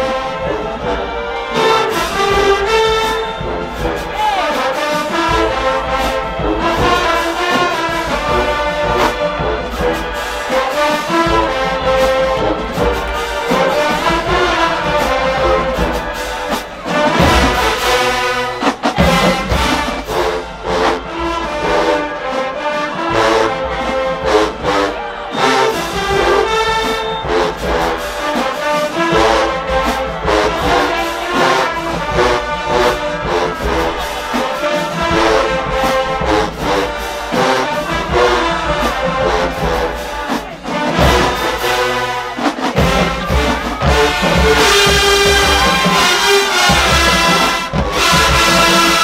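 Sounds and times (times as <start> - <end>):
marching band brass tune: 0.0 - 49.0.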